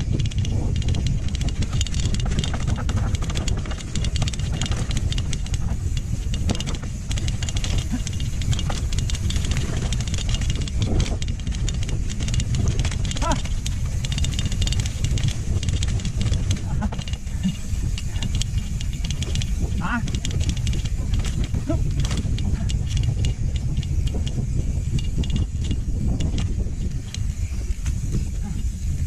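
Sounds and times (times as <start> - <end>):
mountain bike rattling on dirt: 0.0 - 29.0.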